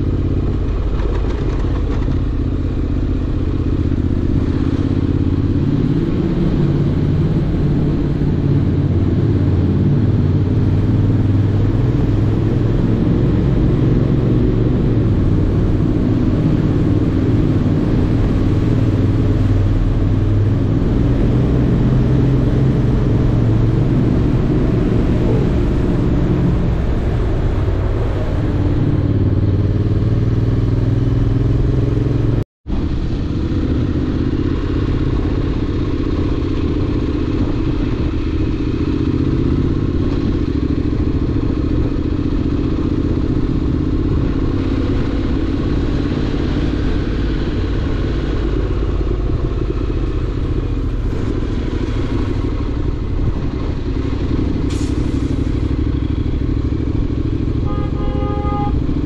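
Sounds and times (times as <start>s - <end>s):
motorcycle engine running: 0.0s - 59.0s
rush of road noise: 0.0s - 59.0s.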